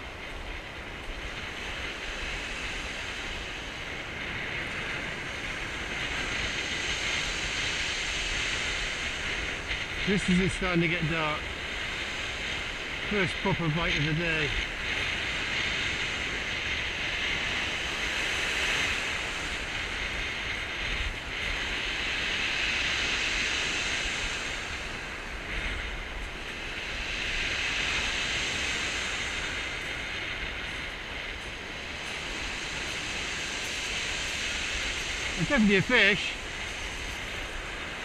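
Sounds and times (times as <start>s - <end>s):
surf breaking on shingle beach: 1.3s - 38.0s.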